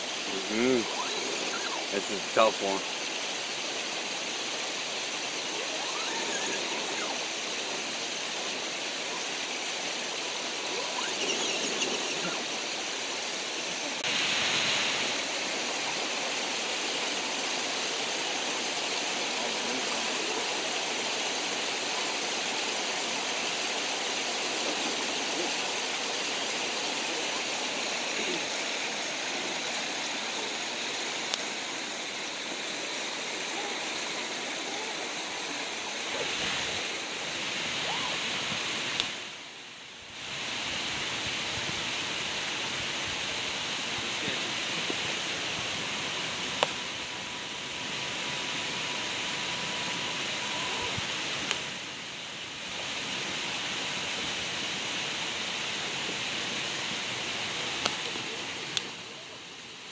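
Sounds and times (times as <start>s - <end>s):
mountain creek rushing: 0.0s - 59.9s.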